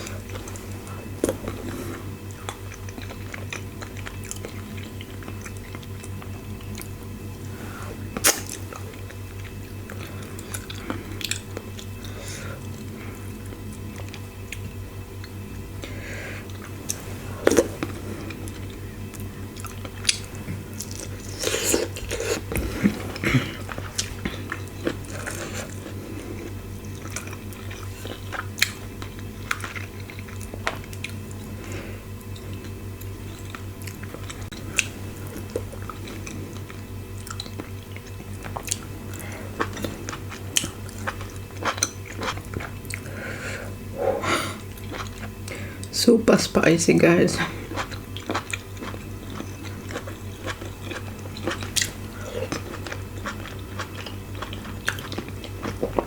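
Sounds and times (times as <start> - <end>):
person chewing and smacking: 0.0 - 7.3, 8.0 - 45.9, 47.4 - 56.0
low hum: 0.0 - 46.0.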